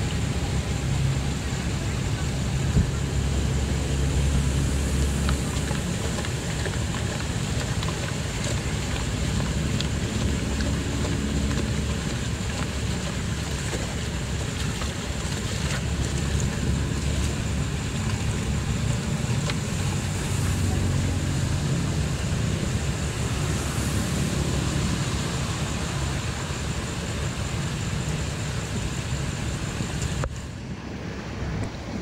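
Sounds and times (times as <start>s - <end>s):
water rushing through culvert: 0.0s - 32.0s.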